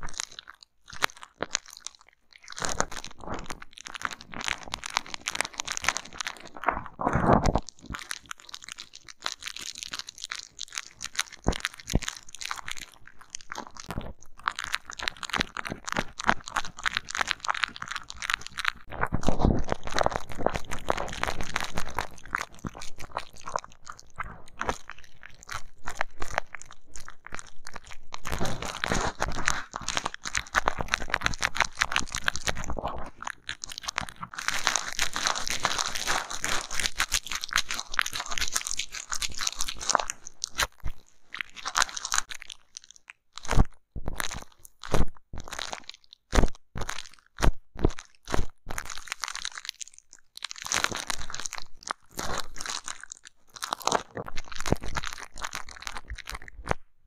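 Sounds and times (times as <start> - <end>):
bubble wrap crackling: 1.0 - 56.8.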